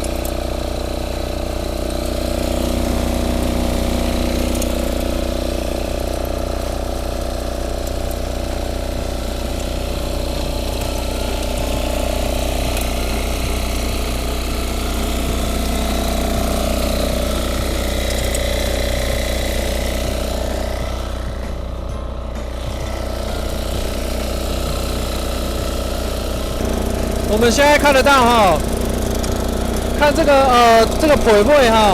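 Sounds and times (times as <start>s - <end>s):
rotary tines working soil: 0.0s - 31.9s
tiller engine running: 0.0s - 31.9s.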